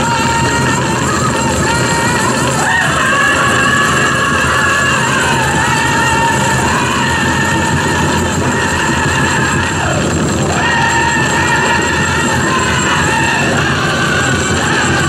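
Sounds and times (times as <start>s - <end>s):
high voices singing: 0.0s - 15.0s
large drum beat: 0.0s - 15.0s.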